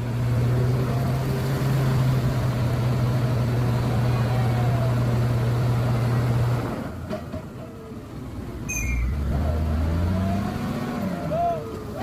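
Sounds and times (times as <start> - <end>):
diesel truck engine revving: 0.0 - 7.0, 8.7 - 11.9.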